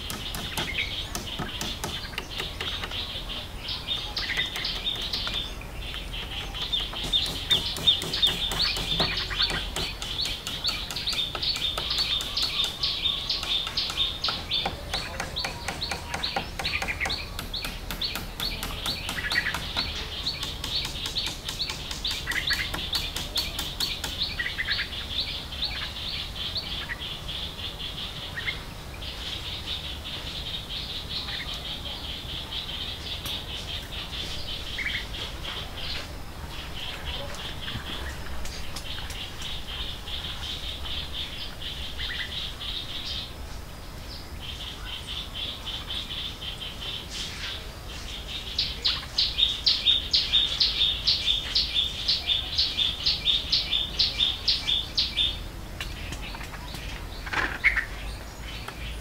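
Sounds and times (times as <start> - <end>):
jungle wildlife chirping chorus: 0.0 - 59.0.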